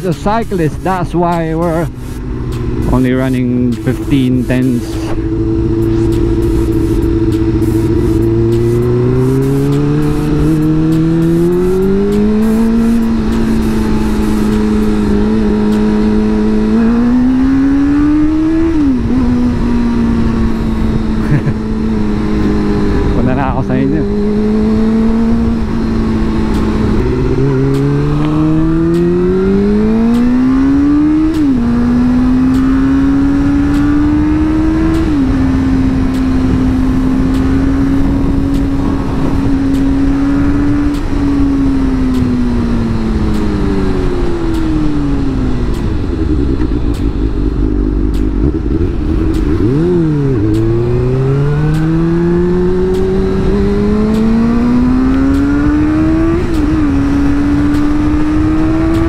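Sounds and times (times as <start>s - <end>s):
motorcycle engine accelerating: 0.0s - 59.0s
wind rushing over microphone: 0.0s - 59.0s.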